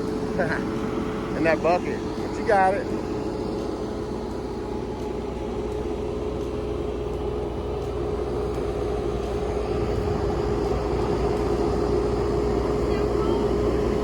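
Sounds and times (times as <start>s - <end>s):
excavator diesel engine whining: 0.0s - 14.0s.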